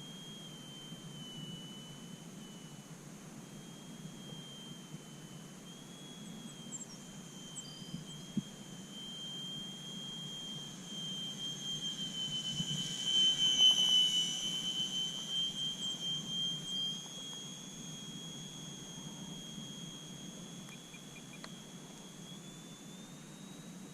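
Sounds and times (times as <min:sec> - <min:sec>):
rc airplane motor whine: 0:00.0 - 0:23.9.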